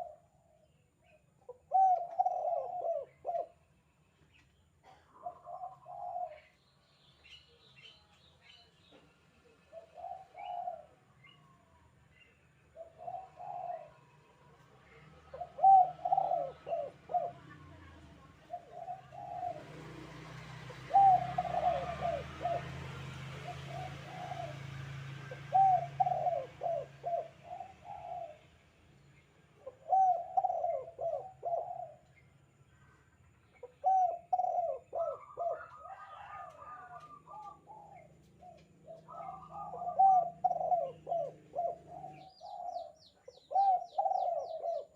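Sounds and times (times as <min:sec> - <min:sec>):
dove cooing: 0:00.0 - 0:00.4, 0:01.4 - 0:03.6, 0:04.8 - 0:06.6, 0:09.7 - 0:11.6, 0:12.7 - 0:28.6, 0:29.5 - 0:32.2, 0:33.5 - 0:44.9.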